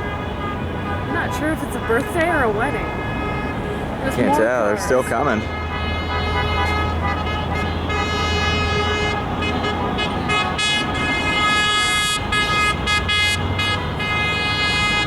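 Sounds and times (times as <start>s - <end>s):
car horns honking: 0.0s - 15.0s
passing engines hum: 0.0s - 15.0s.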